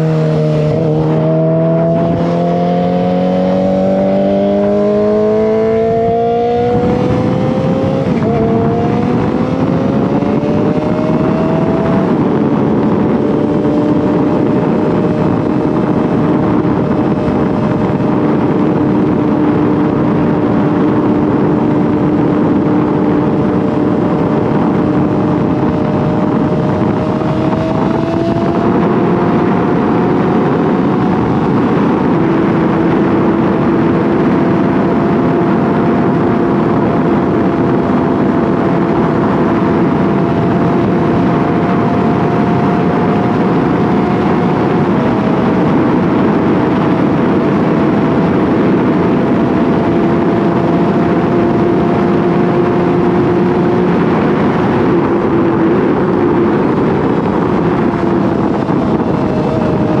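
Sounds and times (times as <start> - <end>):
motorcycle engine cruising: 0.0 - 60.0
wind rush: 0.0 - 60.0.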